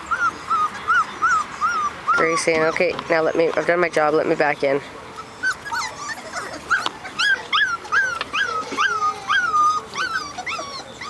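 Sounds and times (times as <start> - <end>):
puppies whimpering: 0.0 - 11.0.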